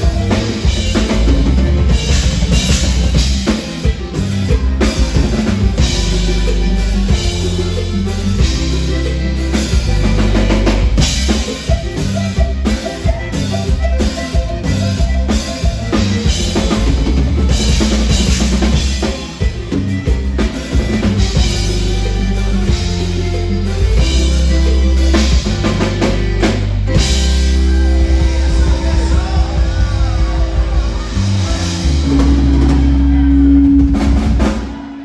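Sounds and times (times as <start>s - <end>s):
band playing: 0.0s - 35.0s
button accordion lead: 0.0s - 35.0s.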